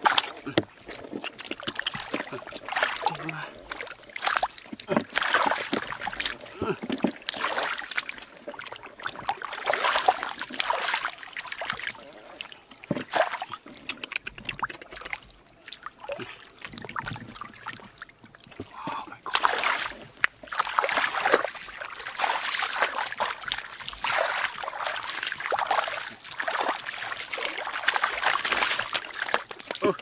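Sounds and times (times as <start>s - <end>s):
hands splashing in muddy water: 0.0s - 30.0s.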